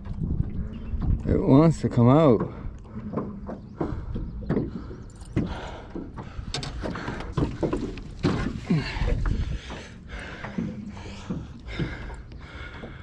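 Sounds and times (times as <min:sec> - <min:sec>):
knocks and bumps on boat hull: 0:02.0 - 0:13.0.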